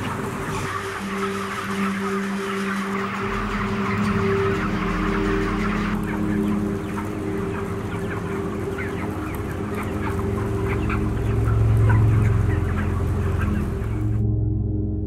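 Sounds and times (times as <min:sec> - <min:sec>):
chickens peeping and chirping: 0:00.0 - 0:14.4
low steady drone: 0:00.4 - 0:15.0.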